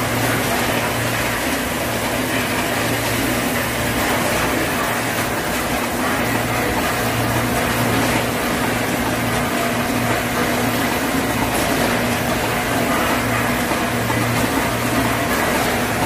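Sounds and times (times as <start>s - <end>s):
low machine hum: 0.0s - 16.0s
packing machine running: 0.0s - 16.0s.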